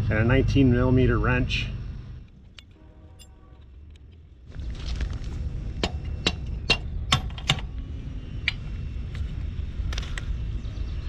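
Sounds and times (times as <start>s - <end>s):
low rumbling background: 0.0s - 11.0s.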